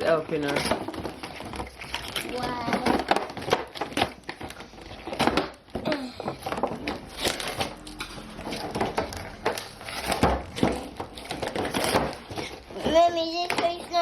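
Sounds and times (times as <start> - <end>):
plastic and cardboard packaging crinkling: 0.0 - 14.0.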